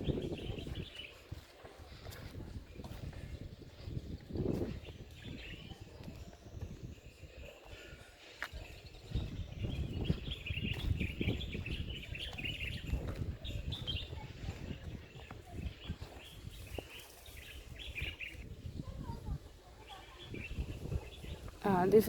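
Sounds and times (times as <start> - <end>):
birds chirping and twittering: 0.0 - 22.0.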